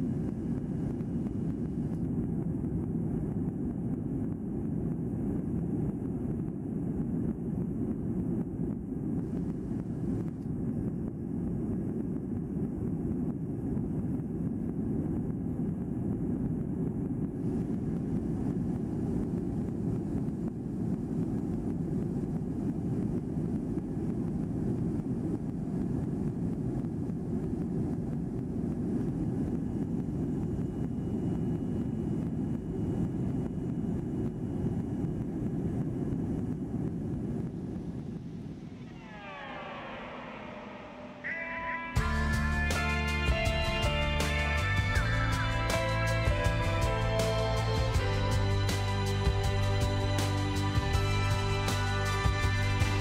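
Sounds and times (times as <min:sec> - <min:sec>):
airliner engine drone in cabin: 0:00.0 - 0:53.0.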